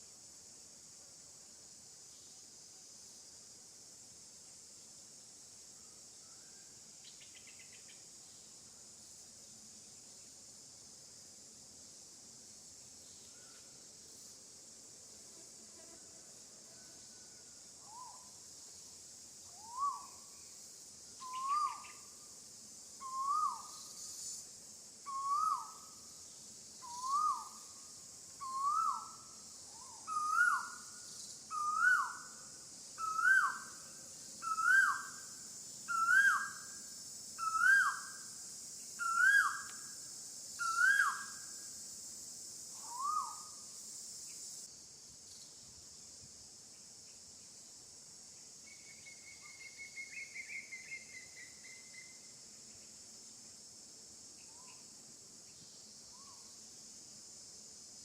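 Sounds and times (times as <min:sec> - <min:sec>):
high insect hum: 0:00.0 - 0:58.0.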